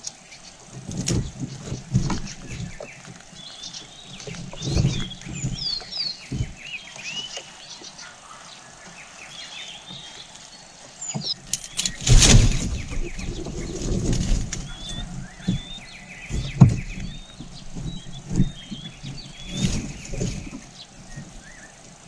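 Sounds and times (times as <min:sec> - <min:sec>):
birds chirping: 0:00.0 - 0:22.0
rustling at nest: 0:00.0 - 0:22.0.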